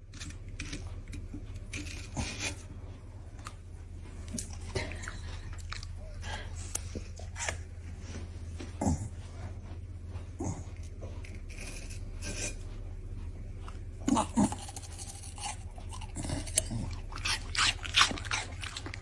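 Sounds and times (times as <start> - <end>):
dog chewing and crunching: 0.0 - 19.0
steady low hum: 0.0 - 19.0.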